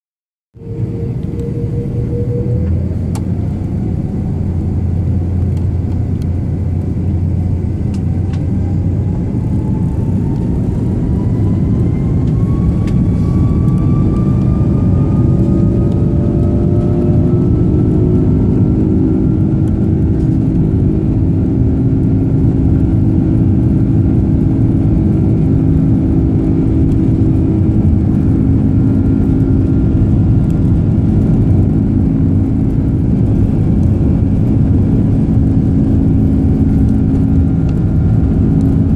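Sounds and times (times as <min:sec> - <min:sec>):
jet engine rush and whine: 0:00.6 - 0:38.9
low engine tones: 0:00.6 - 0:38.9.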